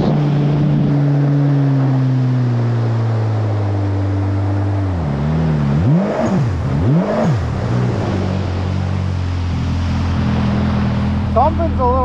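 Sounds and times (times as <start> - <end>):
jet ski engine revving: 0.0 - 12.0.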